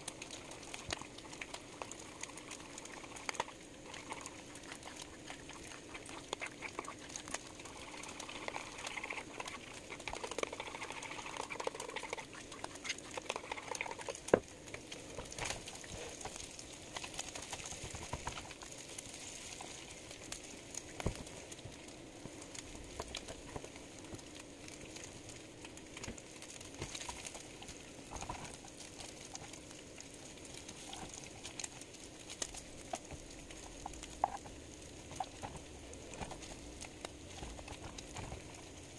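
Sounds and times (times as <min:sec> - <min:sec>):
bacon sizzling and crackling: 0:00.0 - 0:38.9.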